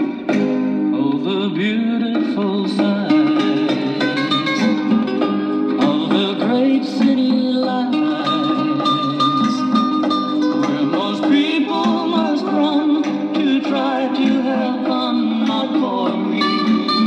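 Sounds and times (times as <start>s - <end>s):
record player music with guitar: 0.0s - 17.0s.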